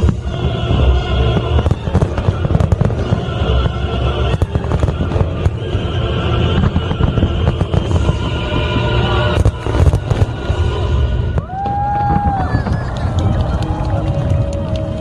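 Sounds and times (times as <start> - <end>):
deep rumble: 0.0 - 15.0
fireworks bangs and crackles: 0.0 - 15.0
music playing: 0.0 - 15.0.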